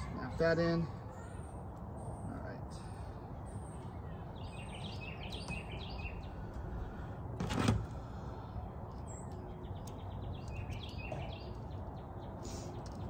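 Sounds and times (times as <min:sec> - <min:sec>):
birds chirping: 0:00.0 - 0:13.0
low ambient rumble: 0:00.0 - 0:13.0.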